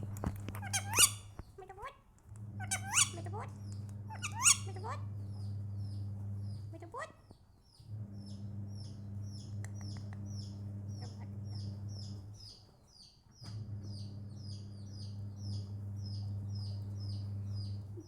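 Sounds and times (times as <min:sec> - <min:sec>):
low electrical hum: 0:00.0 - 0:18.0
bird chirping: 0:00.5 - 0:01.6, 0:02.6 - 0:18.0.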